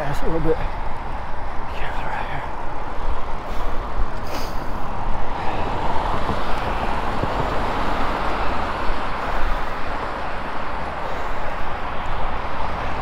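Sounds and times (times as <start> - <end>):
road traffic: 0.0 - 13.0
wind rumble on microphone: 0.6 - 13.0.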